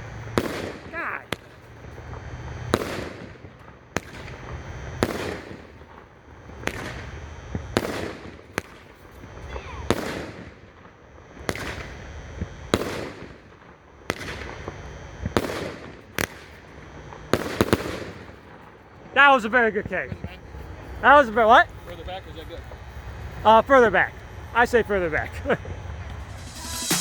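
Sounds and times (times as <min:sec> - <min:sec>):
crackling hiss of fireworks: 0:00.0 - 0:27.0
firework bangs: 0:00.0 - 0:27.0.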